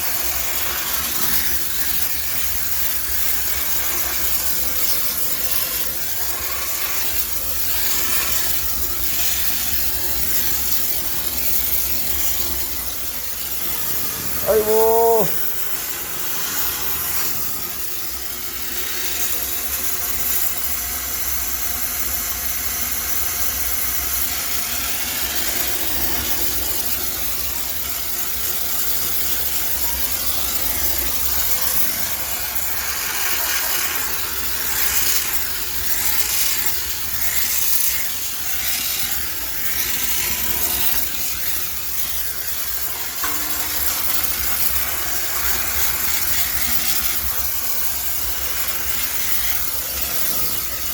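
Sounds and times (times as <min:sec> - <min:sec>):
steam cleaner hissing: 0:00.0 - 0:50.9.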